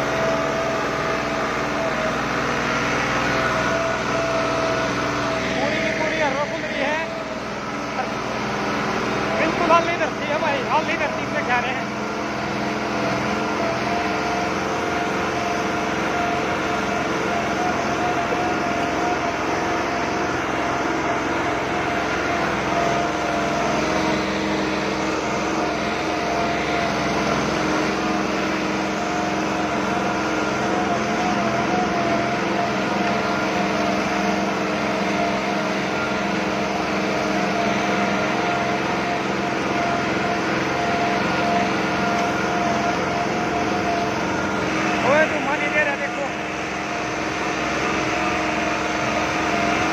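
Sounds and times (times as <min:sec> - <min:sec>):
tractor diesel engine under load: 0:00.0 - 0:49.9.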